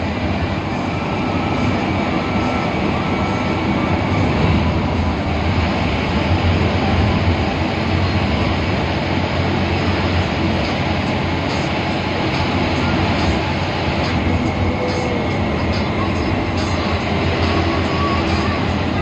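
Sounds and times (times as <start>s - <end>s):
bus engine drone: 0.0s - 19.0s
road and tyre noise: 0.0s - 19.0s.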